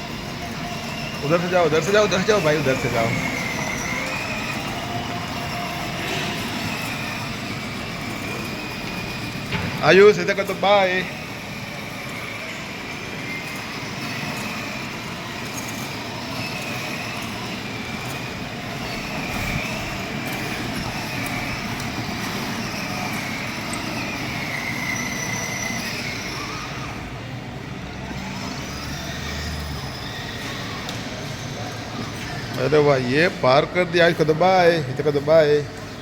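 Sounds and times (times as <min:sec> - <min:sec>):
ride-on toy cars running: 0:00.0 - 0:36.0.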